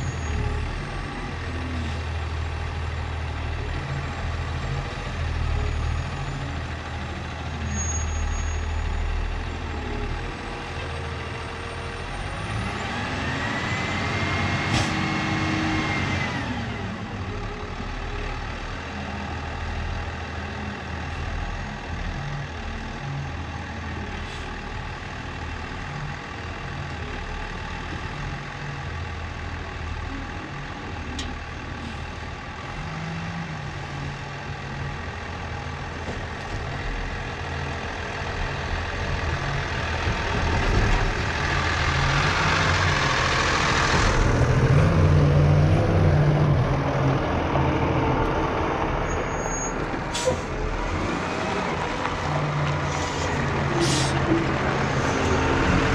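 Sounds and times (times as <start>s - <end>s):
heavy vehicle engine revving: 0.0s - 55.9s.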